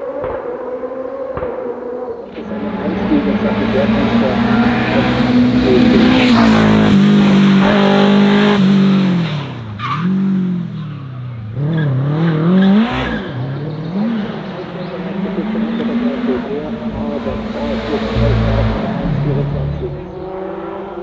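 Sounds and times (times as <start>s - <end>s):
racing car engine revving: 2.3s - 21.0s
tyre squeal: 2.4s - 8.6s, 9.4s - 20.7s.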